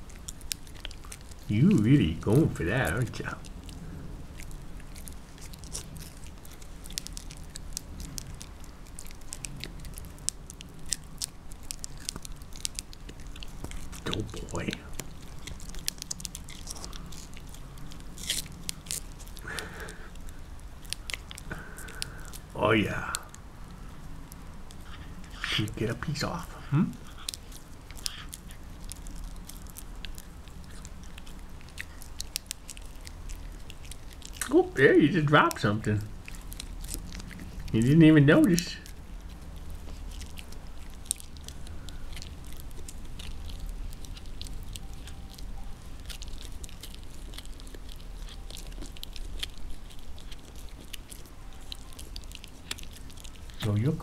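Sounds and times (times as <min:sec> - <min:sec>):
dog gnawing a chew bone: 0:00.0 - 0:54.0.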